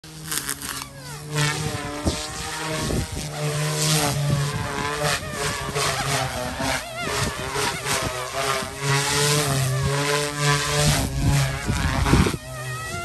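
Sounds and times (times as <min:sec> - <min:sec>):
rc helicopter rotors droning: 0:00.0 - 0:13.0
rotor swishes: 0:00.0 - 0:13.0.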